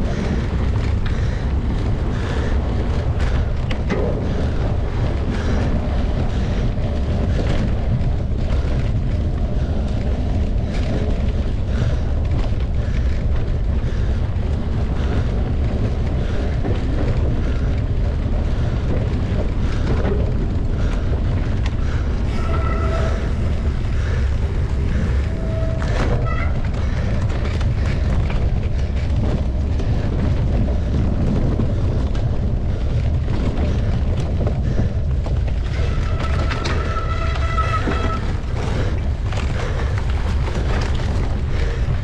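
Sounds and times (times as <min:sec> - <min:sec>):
bike knocks and rattles: 0:00.0 - 0:42.0
wind rumble on microphone: 0:00.0 - 0:42.0.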